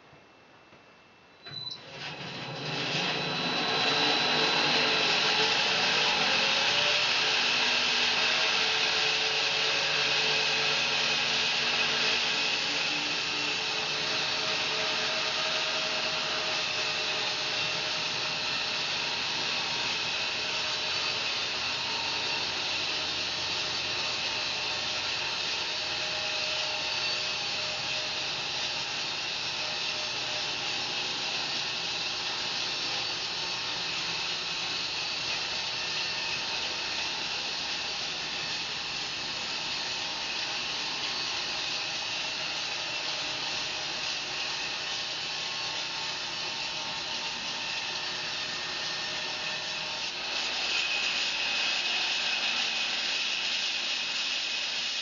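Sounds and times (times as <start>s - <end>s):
bandsaw mill sawing log: 2.0s - 55.0s.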